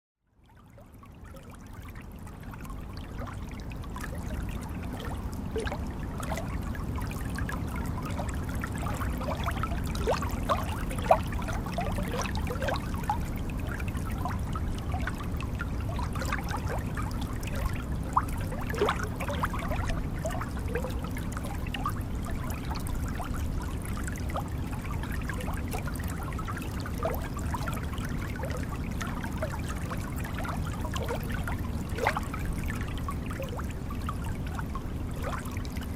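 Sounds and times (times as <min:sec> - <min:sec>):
water bubbling and gurgling: 0:00.4 - 0:35.9.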